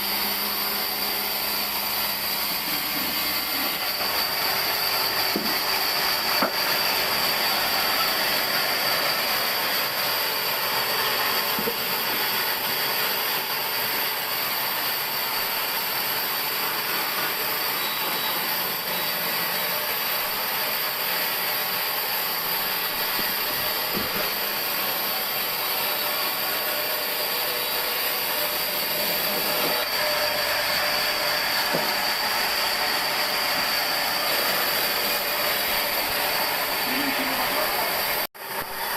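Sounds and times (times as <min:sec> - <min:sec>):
high steady whine: 0:00.0 - 0:38.9
sawmill machinery running: 0:00.0 - 0:38.9.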